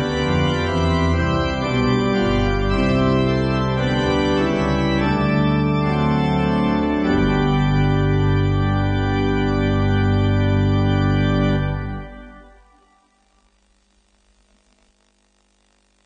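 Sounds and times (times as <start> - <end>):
slow organ chords: 0.0 - 14.7.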